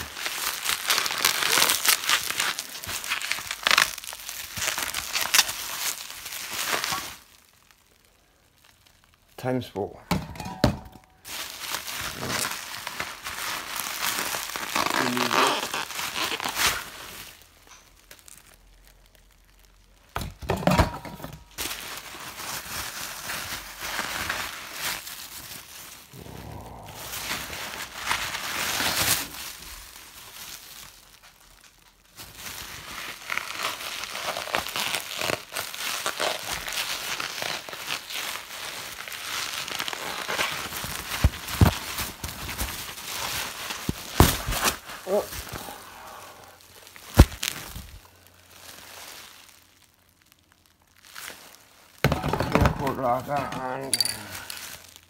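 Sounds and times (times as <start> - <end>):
bubble wrap crinkling: 0.0 - 10.1, 10.7 - 20.6, 21.3 - 55.0.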